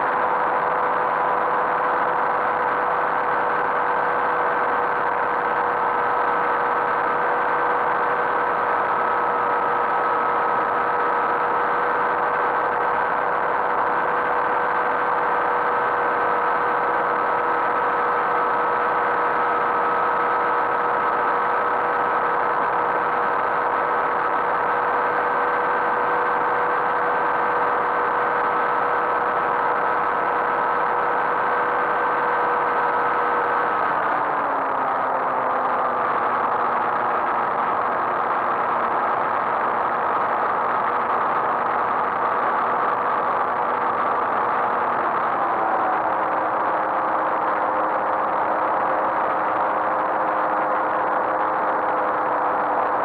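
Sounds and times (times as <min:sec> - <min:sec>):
light aircraft engine and propeller: 0:00.0 - 0:45.1, 0:45.7 - 0:53.0
rush of noise: 0:00.0 - 0:53.0.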